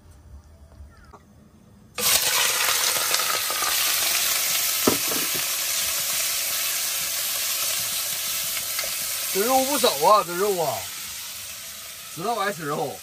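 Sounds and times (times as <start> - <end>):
meat sizzling in hot oil: 2.0 - 13.0.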